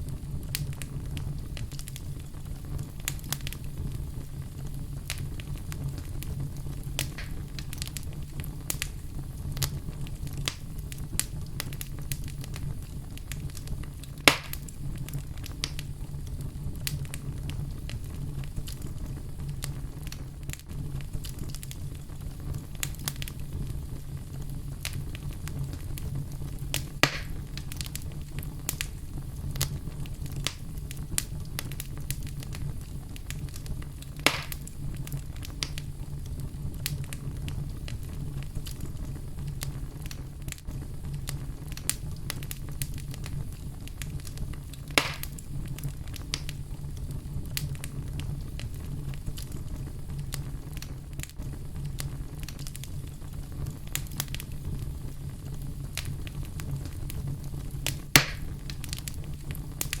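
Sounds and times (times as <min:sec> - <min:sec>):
loud fire pops: 0:00.0 - 1:00.0
wood fire crackling: 0:00.0 - 1:00.0.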